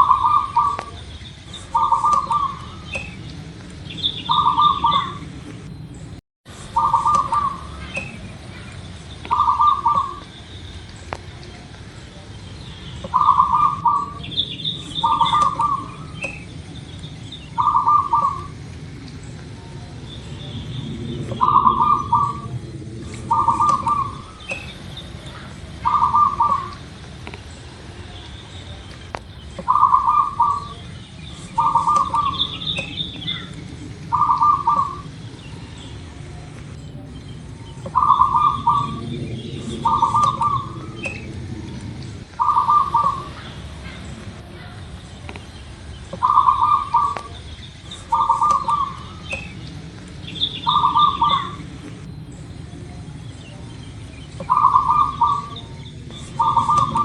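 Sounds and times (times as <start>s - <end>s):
dove cooing: 0.0s - 5.5s, 6.6s - 10.4s, 13.0s - 16.8s, 17.4s - 27.0s, 29.6s - 45.0s, 46.1s - 52.1s, 54.3s - 57.0s
small birds chirping: 0.0s - 57.0s.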